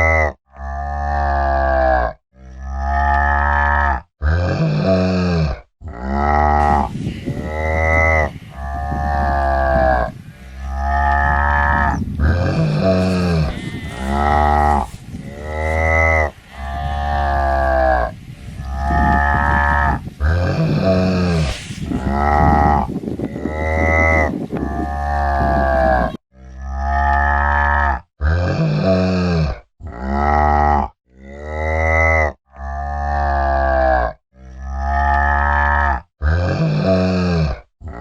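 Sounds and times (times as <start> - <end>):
cow mooing: 0.0 - 38.0.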